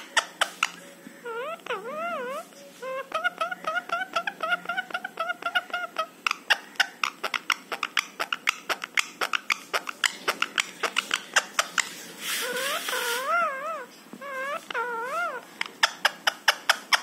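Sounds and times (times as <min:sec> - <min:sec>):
parakeet chattering: 0:00.0 - 0:17.0.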